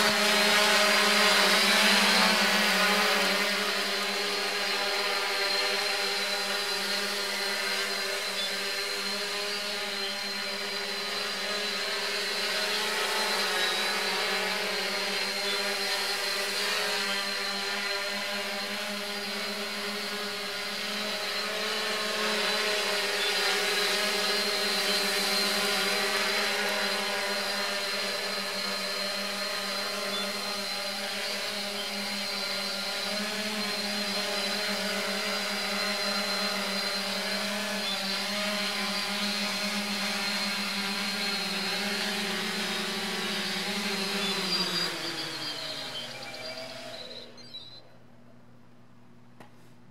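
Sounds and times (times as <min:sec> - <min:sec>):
drone propellers whirring: 0:00.0 - 0:47.8.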